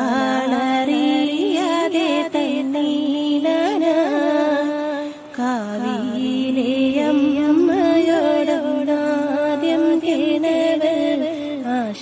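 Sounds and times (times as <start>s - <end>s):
woman singing folk song: 0.0s - 12.0s.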